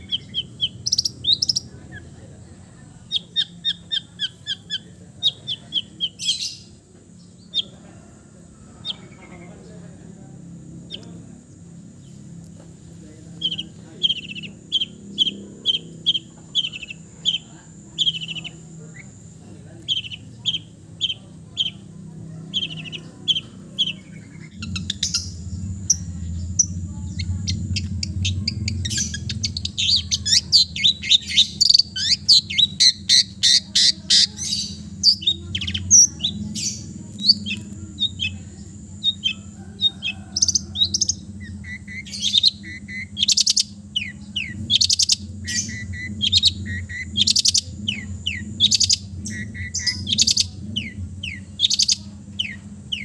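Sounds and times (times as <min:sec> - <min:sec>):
bird singing chattering song: 0:00.0 - 0:53.0
low hum: 0:06.6 - 0:53.0.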